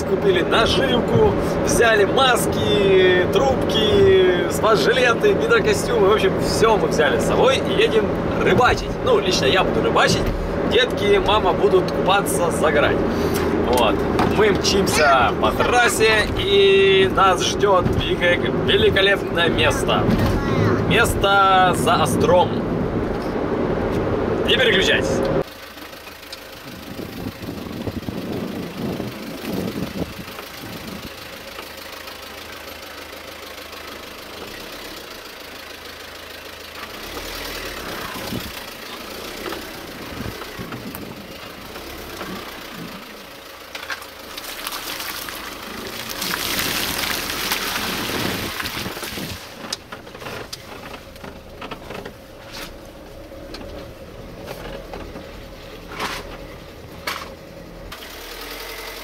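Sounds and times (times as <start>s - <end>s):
car body rattling over bumps: 0.0s - 24.4s, 25.4s - 58.0s
car engine running low: 0.0s - 59.0s.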